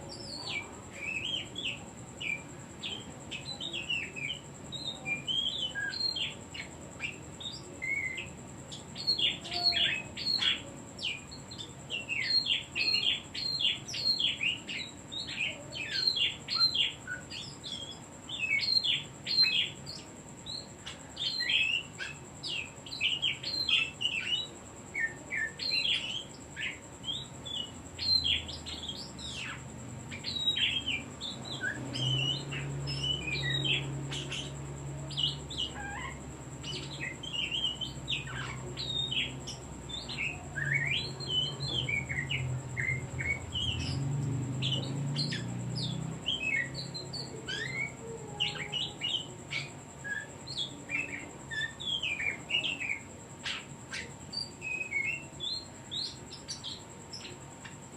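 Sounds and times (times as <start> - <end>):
bird singing whistles and chatter: 0.0 - 57.8.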